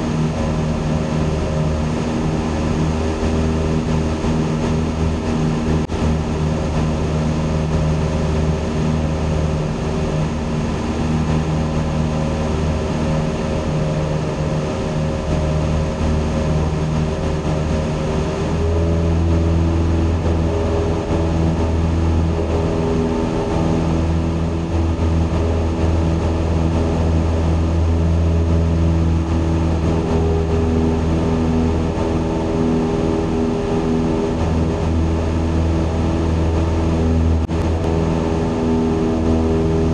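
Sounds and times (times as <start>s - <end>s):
light airplane engine drone: 0.0s - 39.9s.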